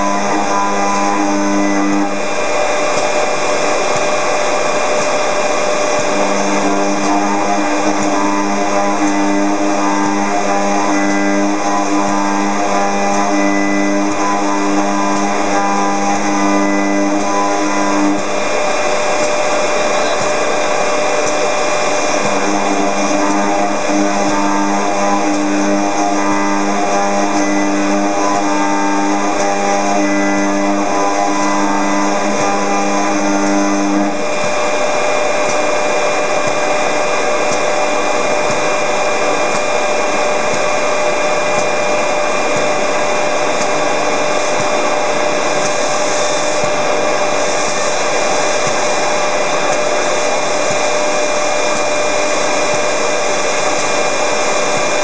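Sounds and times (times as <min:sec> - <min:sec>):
milling spindle whine: 0:00.0 - 0:55.0.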